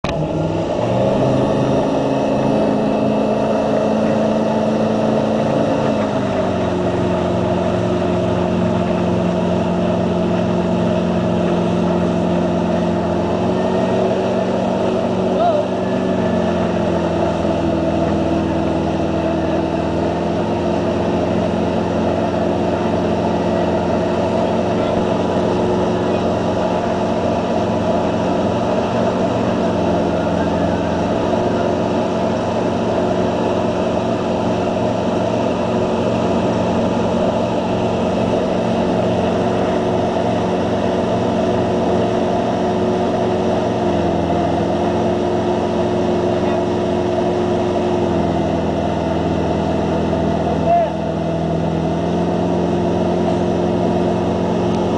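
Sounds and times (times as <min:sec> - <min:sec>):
boat engine running: 0:00.0 - 0:54.9
rush of churning wake: 0:00.0 - 0:54.9.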